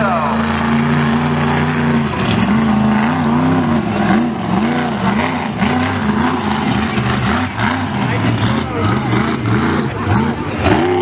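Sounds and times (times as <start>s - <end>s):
large vehicle engine revving: 0.0s - 11.0s.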